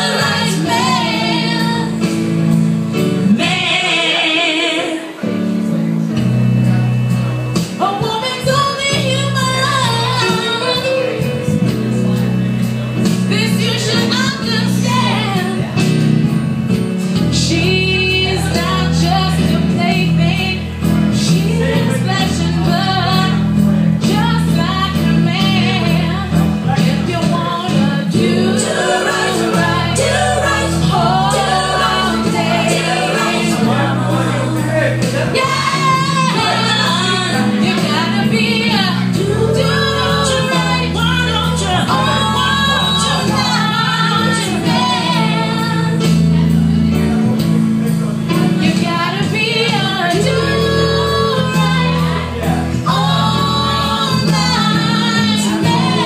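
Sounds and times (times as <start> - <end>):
woman singing soul ballad: 0.0 - 5.8, 7.6 - 12.2, 12.9 - 47.5, 48.2 - 56.0
instrumental accompaniment: 0.0 - 56.0.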